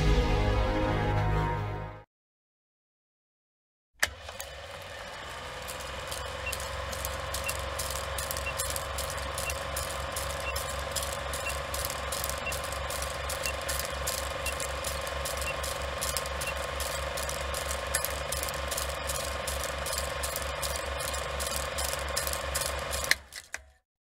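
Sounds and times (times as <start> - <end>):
film projector clatter and hum: 4.0 - 23.8.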